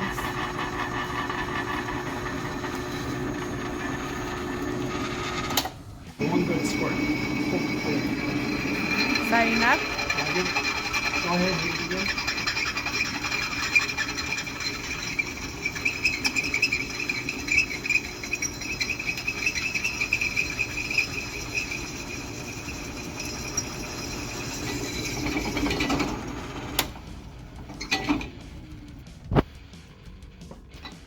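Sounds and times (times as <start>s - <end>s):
bit cutting steel whine: 0.0s - 29.4s
drill press motor hum: 0.0s - 31.0s.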